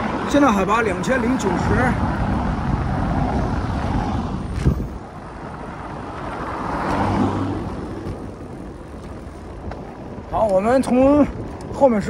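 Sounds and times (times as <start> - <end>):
road noise: 0.0 - 12.0
wind rumbling on microphone: 0.0 - 12.0.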